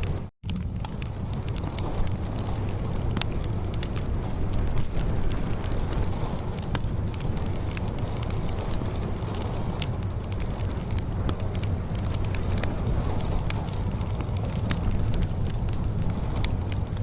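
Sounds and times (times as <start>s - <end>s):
fire crackling and popping: 0.0s - 17.0s
steady low rumble: 0.0s - 17.0s.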